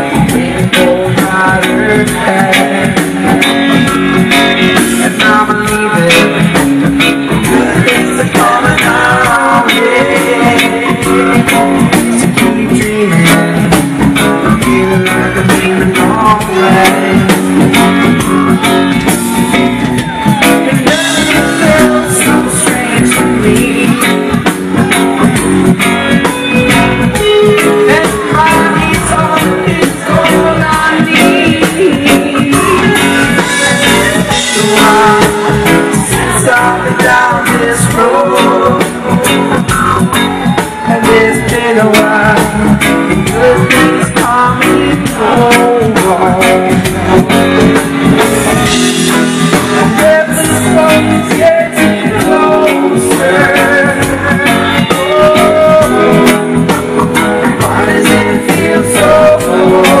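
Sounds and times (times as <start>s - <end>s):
electric guitar lines: 0.0s - 60.0s
live reggae band music: 0.0s - 60.0s.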